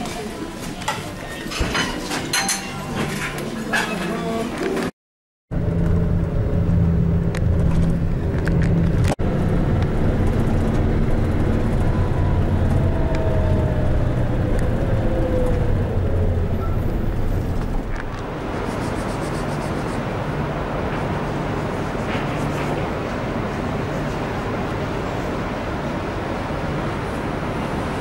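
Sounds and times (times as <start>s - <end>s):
vehicle engine and road noise: 5.5s - 28.0s.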